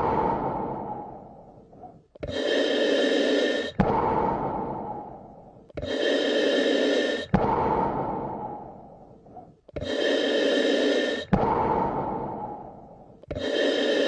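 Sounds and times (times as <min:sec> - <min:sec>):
deep human breathing: 0:00.0 - 0:14.0.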